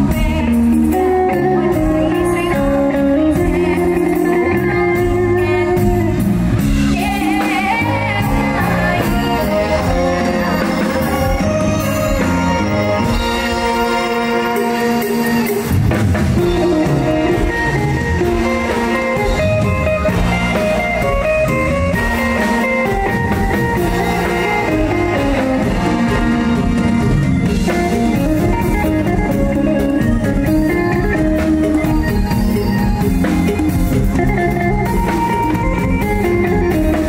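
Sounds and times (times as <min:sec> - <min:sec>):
band music with guitar and drums: 0:00.0 - 0:37.0.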